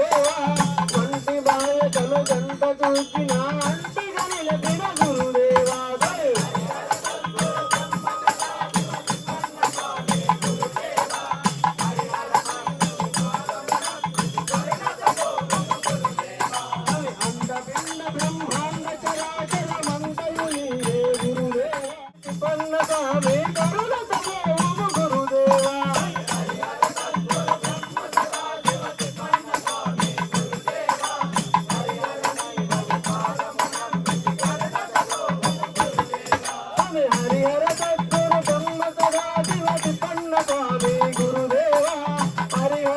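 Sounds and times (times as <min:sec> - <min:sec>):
drum beats: 0:00.0 - 0:42.9
jingling hand percussion: 0:00.0 - 0:42.9.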